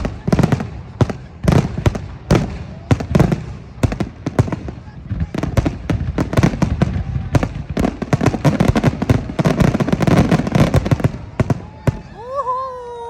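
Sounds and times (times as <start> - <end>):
fireworks bangs and crackles: 0.0 - 12.5.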